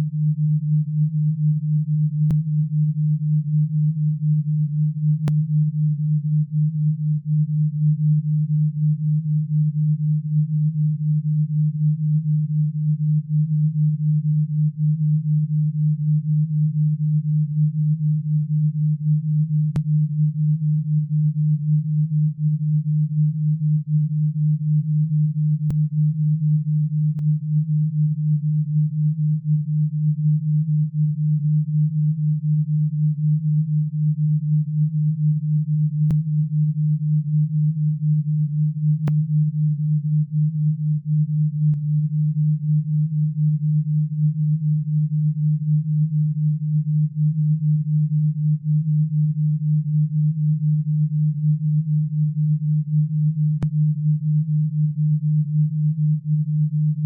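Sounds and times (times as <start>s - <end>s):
low wobbling pure tone: 0.0s - 57.0s.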